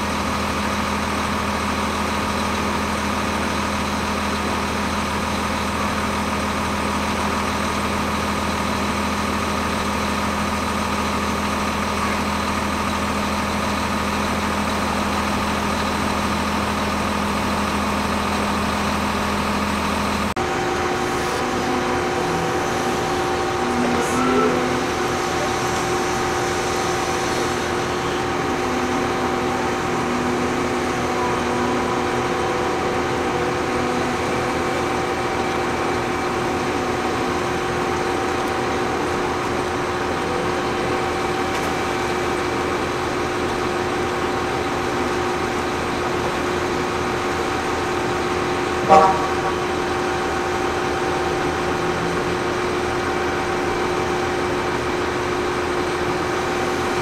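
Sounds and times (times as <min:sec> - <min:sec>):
hydraulic rig engine drone: 0:00.0 - 0:57.0.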